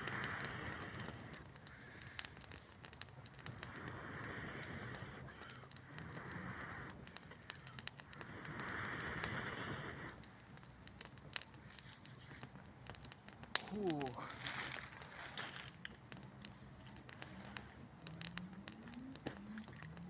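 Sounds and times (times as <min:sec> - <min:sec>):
campfire crackling: 0:00.0 - 0:20.0
sharp pops: 0:00.0 - 0:20.0.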